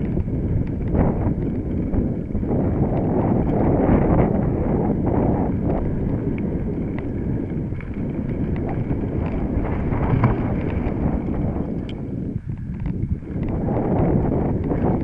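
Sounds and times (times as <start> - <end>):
bike rattling clicks: 0.0 - 15.0
bike tyres rumbling on dirt: 0.0 - 15.0
wind on microphone: 0.0 - 15.0.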